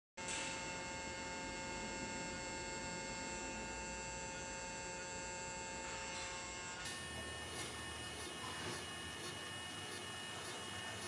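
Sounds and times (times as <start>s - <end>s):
electric machine hum: 0.2s - 11.0s.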